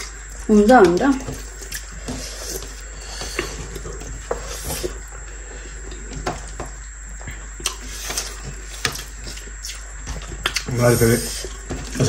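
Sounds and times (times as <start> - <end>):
mouth chewing: 0.0 - 6.1, 6.8 - 12.0.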